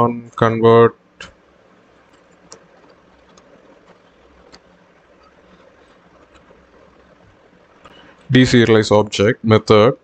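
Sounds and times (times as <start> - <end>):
microphone hiss and hum: 0.0 - 10.0.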